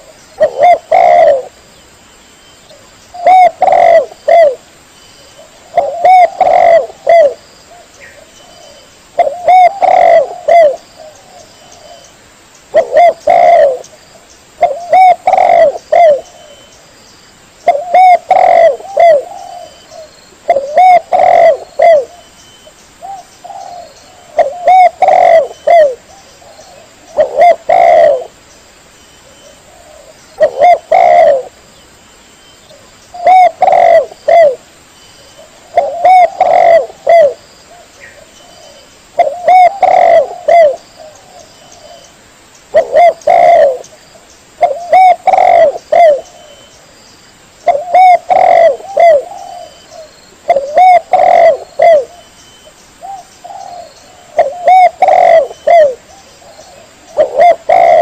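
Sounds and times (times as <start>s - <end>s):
dove cooing: 0.0s - 1.6s, 2.7s - 4.6s, 5.4s - 12.1s, 12.7s - 13.9s, 14.6s - 16.7s, 17.6s - 22.3s, 23.0s - 28.4s, 29.2s - 31.6s, 32.7s - 34.6s, 35.4s - 42.1s, 42.7s - 44.0s, 44.6s - 46.7s, 47.6s - 52.3s, 53.0s - 58.0s.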